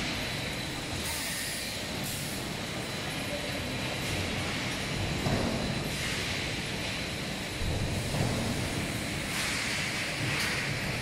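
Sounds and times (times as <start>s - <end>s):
faint high machine whine: 0.0s - 11.0s
machine line rumble and hiss: 0.0s - 11.0s.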